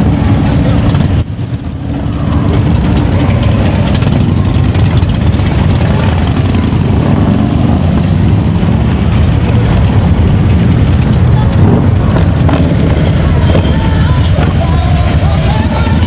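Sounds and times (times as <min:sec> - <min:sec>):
motorcycle engines running: 0:00.0 - 0:16.0.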